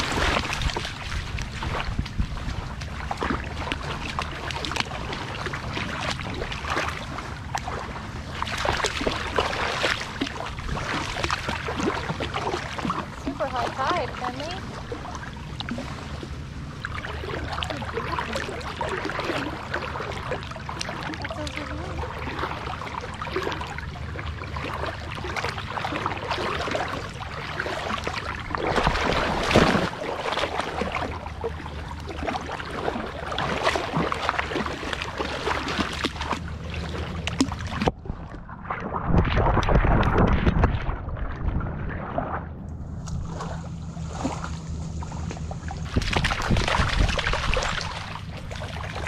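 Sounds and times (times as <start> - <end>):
loud splash: 0.0 - 16.1, 16.8 - 42.5, 43.2 - 49.0
water sloshing and splashing: 0.0 - 49.0.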